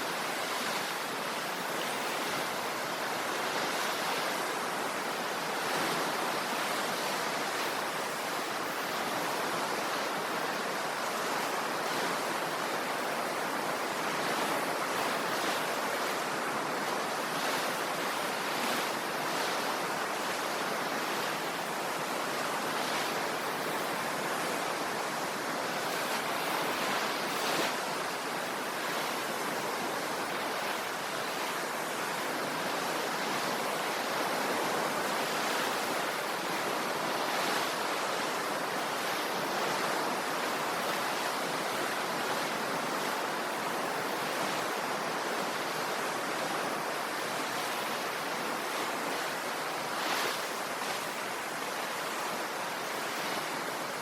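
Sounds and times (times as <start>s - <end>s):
sea waves washing on shore: 0.0s - 54.0s.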